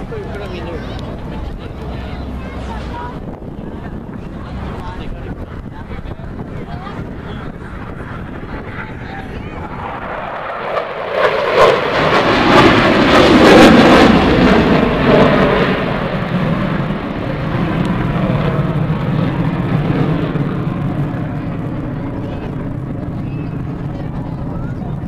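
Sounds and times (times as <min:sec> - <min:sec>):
aircraft flying past: 0:00.0 - 0:25.0.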